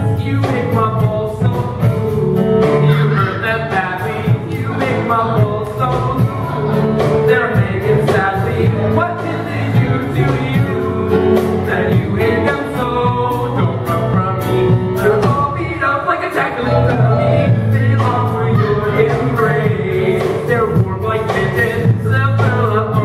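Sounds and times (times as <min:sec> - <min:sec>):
instrumental accompaniment with drums: 0:00.0 - 0:23.0
men singing rock song: 0:00.0 - 0:23.0.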